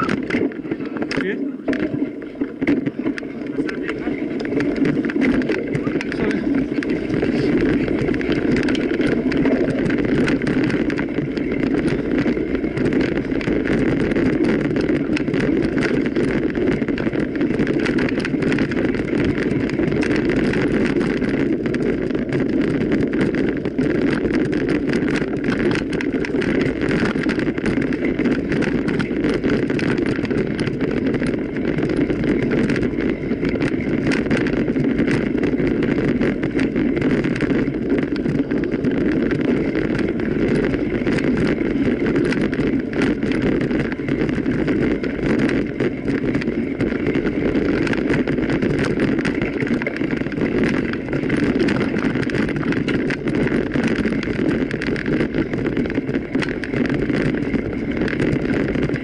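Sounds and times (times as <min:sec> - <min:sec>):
bike tyre rumble: 0:00.0 - 0:59.0
small rattles and clicks: 0:00.0 - 0:59.0
wind buffeting microphone: 0:00.0 - 0:59.0.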